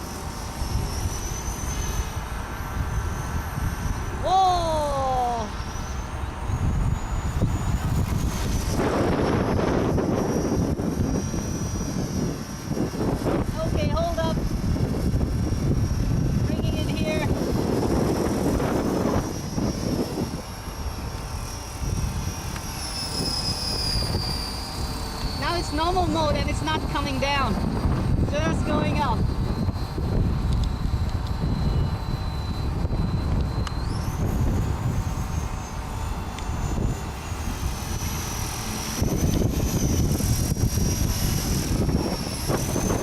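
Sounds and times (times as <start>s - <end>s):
electric helicopter motor whine: 0.0s - 43.0s
wind rumble on microphone: 0.0s - 43.0s.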